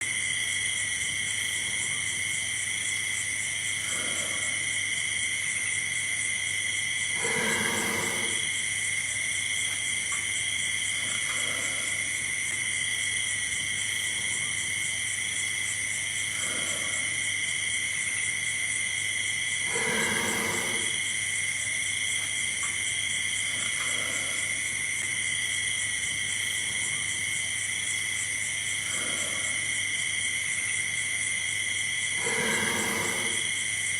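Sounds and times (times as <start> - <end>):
high insect chorus: 0.0 - 33.9.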